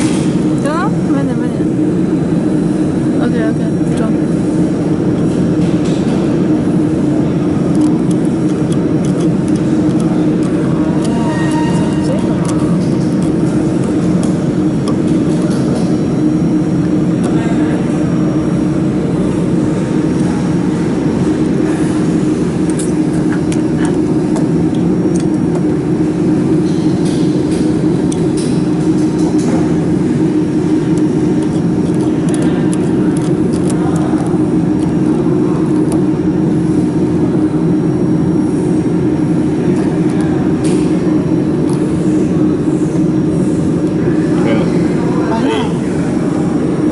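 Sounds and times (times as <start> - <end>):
constant low hum: 0.0 - 46.9
cooling fans whirring: 0.0 - 46.9.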